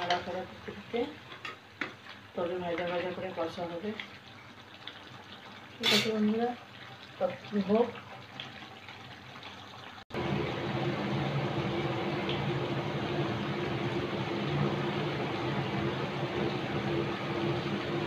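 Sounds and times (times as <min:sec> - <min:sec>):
meat sizzling in oil: 0:00.0 - 0:18.0.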